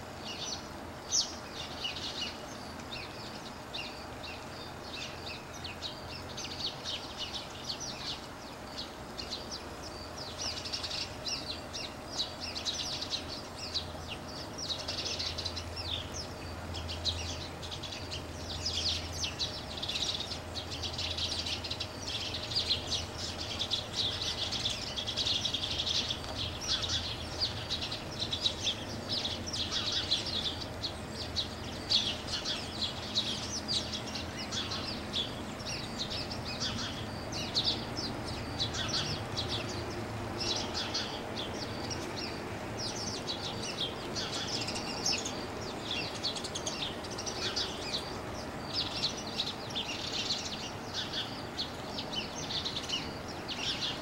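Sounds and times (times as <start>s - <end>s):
flock of songbirds chirping: 0.0s - 54.0s.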